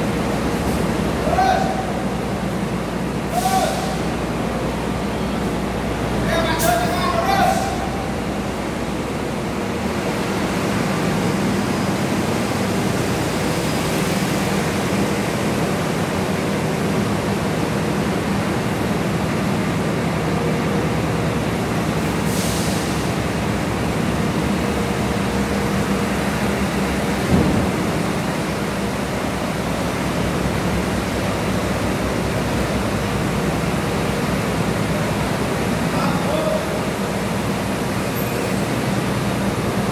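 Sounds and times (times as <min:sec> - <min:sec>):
bus diesel engines droning: 0:00.0 - 0:39.9.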